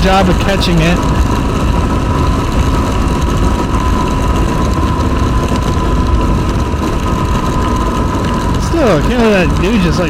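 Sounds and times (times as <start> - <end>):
motorcycle engine running: 0.0 - 10.0
steady high whine: 0.0 - 10.0
wind rush on microphone: 0.0 - 10.0.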